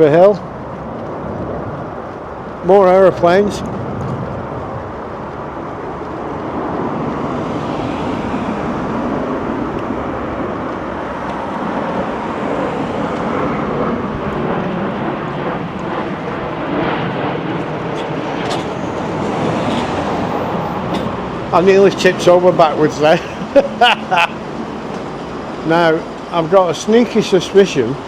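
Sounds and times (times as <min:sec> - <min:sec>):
jet airliner flying overhead: 0:00.0 - 0:28.0.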